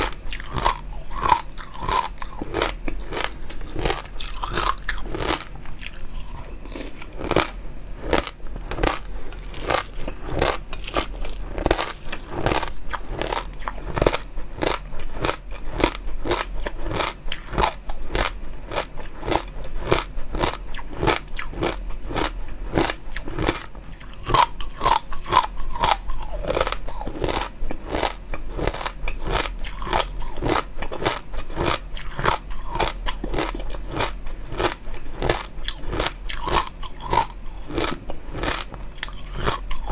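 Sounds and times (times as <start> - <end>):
close chewing and crunching food: 0.0 - 39.9.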